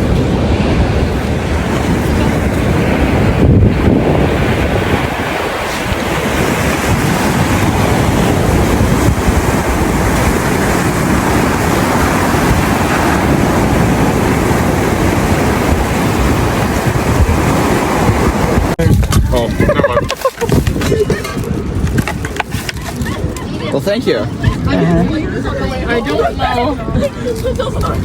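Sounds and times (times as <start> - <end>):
waves breaking on shore: 0.0 - 28.0
wind buffeting microphone: 0.0 - 28.0.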